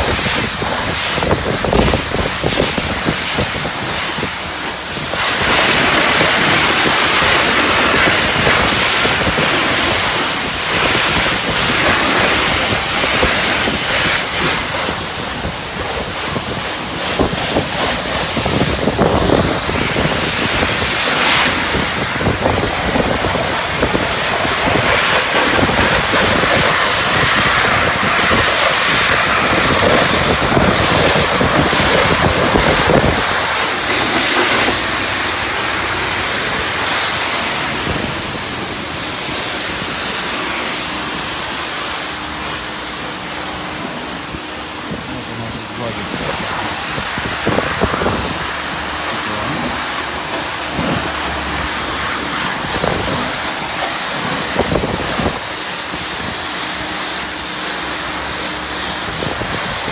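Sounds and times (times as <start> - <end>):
pressure washer jet hissing: 0.0 - 59.9
water spattering off car: 0.0 - 59.9.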